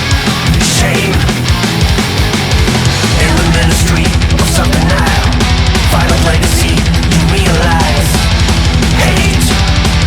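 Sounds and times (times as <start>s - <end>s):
fast drum beat: 0.0s - 10.0s
heavy metal music: 0.0s - 10.0s.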